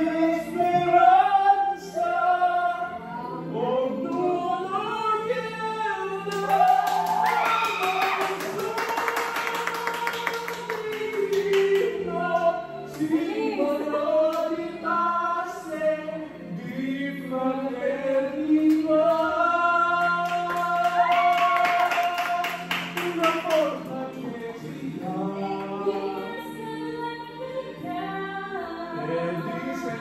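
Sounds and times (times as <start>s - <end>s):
group of people singing: 0.0s - 30.0s.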